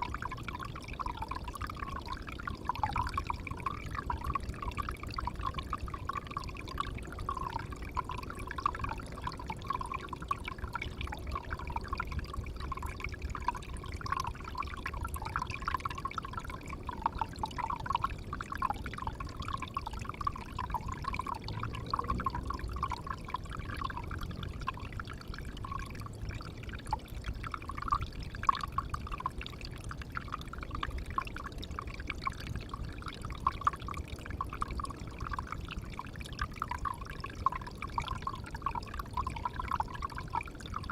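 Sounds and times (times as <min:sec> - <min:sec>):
water pouring into a pond: 0:00.0 - 0:40.9.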